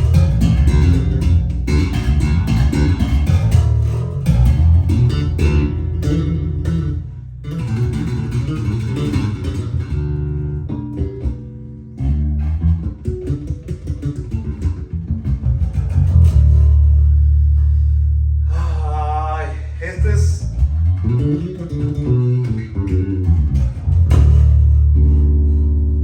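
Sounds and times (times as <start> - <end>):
electric bass plucked notes: 0.0 - 26.0.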